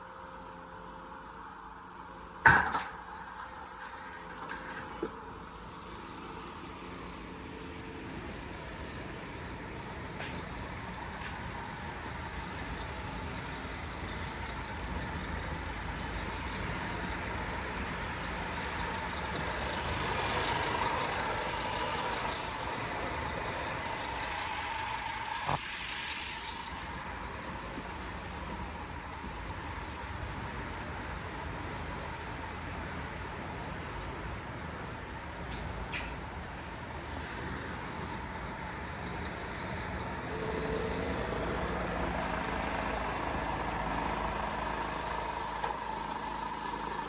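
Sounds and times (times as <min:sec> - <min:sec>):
truck diesel engine running: 0:00.0 - 0:47.0.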